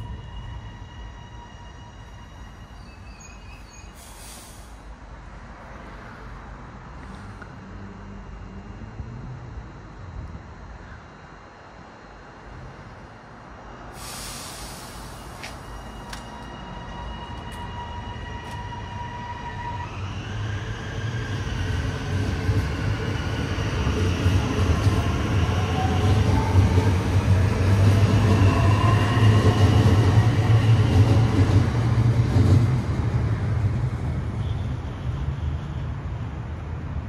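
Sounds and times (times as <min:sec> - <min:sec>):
train passing: 0:00.0 - 0:09.4, 0:11.8 - 0:37.0.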